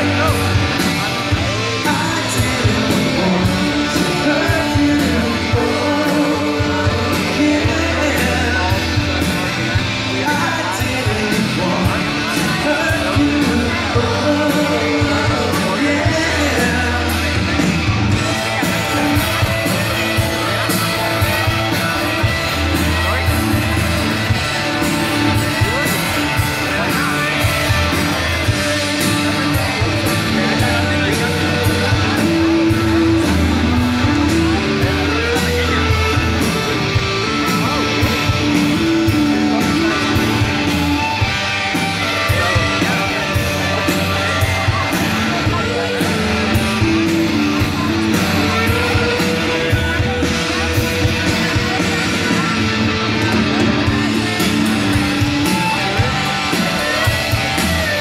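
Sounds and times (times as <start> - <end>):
live rock band through pa: 0.0 - 58.0.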